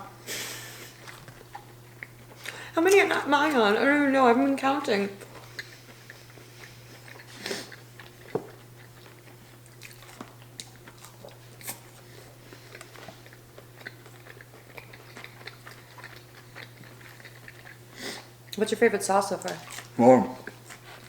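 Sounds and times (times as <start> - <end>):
chewing food: 0.8 - 3.6, 5.1 - 21.0.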